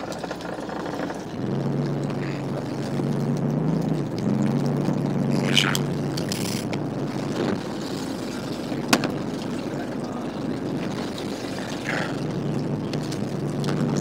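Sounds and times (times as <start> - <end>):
boat engine running: 0.0 - 14.0
sea noise: 0.0 - 14.0.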